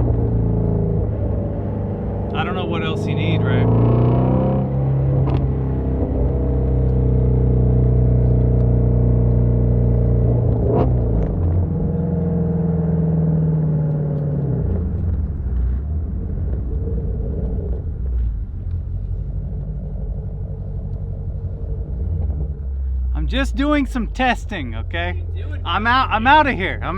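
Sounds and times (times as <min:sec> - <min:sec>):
car engine running: 0:00.0 - 0:26.9.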